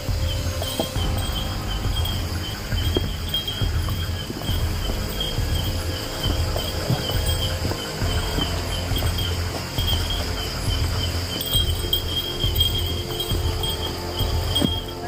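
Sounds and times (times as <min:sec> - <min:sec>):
high insect drone: 0:00.0 - 0:15.0
insects chirping: 0:00.0 - 0:15.0.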